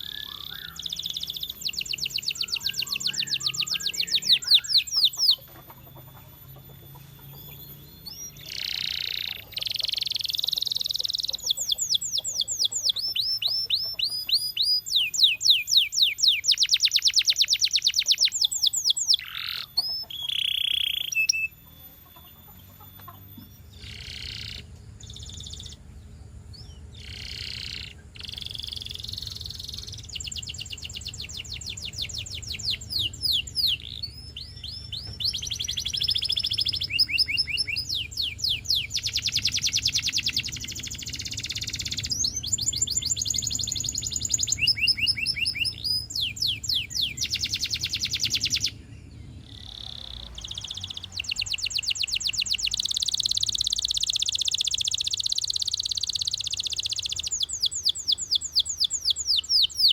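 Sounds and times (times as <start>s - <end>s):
canary singing rapid trills: 0.0s - 59.9s.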